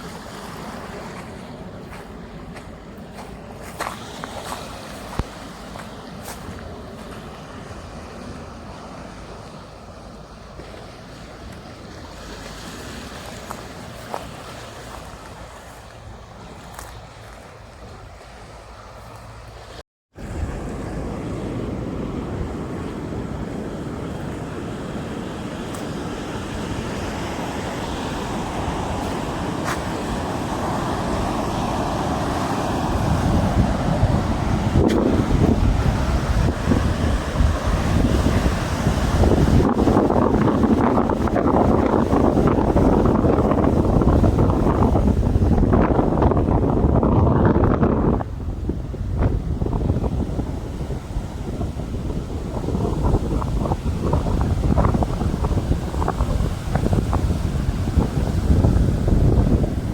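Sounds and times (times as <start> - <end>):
surf washing onto shore: 0.0 - 59.9
wind buffeting microphone: 0.0 - 59.9.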